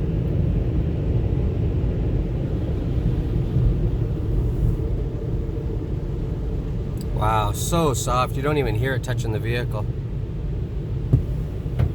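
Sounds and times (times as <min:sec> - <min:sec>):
car wash machinery rumble: 0:00.0 - 0:11.9.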